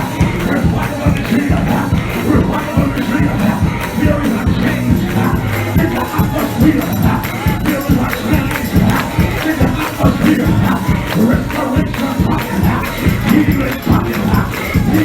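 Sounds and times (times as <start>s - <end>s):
bass line: 0.0s - 15.0s
church band music: 0.0s - 15.0s
congregation singing: 0.0s - 15.0s
drum beat: 0.0s - 15.0s.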